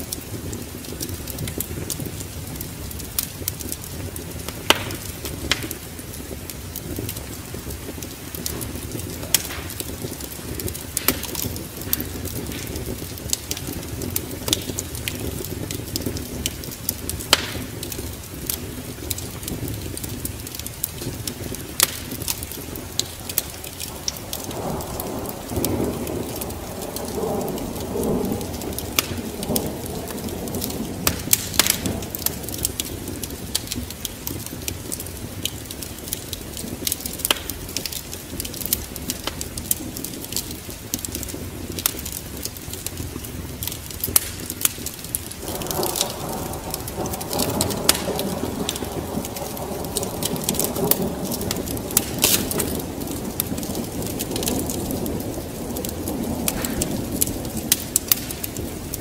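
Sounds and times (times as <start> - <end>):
steady rain: 0.0 - 59.0
thunder rumbling: 0.0 - 59.0
wood fire crackling: 0.0 - 59.0.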